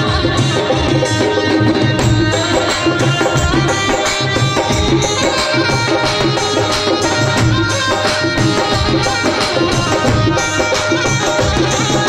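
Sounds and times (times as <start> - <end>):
devotional music over loudspeaker: 0.0 - 12.0
hand drum rhythm: 0.0 - 12.0.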